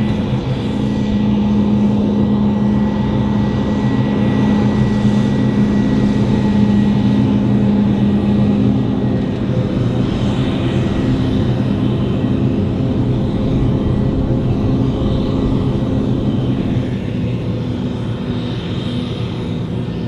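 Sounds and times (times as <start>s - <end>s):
diesel farm machinery drone: 0.0s - 20.0s.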